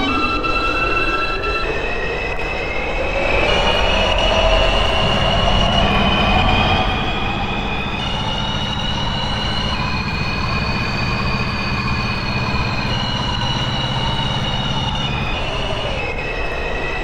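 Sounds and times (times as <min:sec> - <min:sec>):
high squealing tones: 0:00.0 - 0:17.0
rising and falling whine: 0:00.0 - 0:17.0
train rumble: 0:00.0 - 0:17.0.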